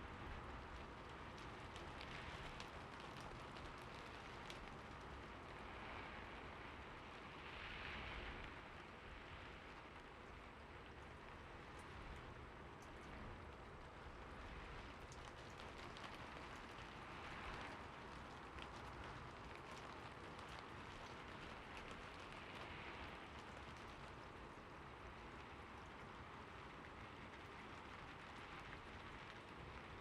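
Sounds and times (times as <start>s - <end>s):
rain drops ticking on surface: 0.0s - 30.0s.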